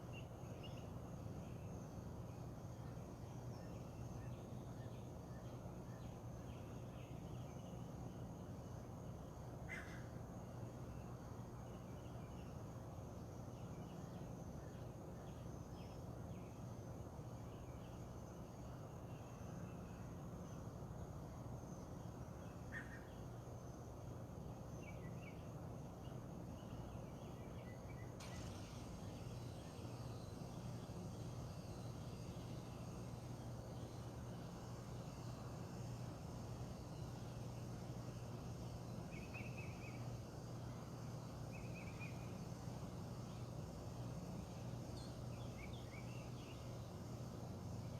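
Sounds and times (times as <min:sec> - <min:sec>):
steady hiss: 0:00.0 - 0:47.9
steady low hum: 0:00.0 - 0:47.9.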